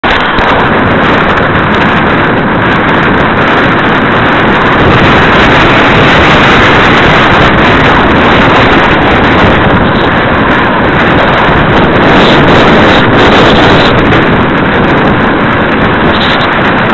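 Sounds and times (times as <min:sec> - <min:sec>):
wind rushing over microphone: 0:00.0 - 0:16.9.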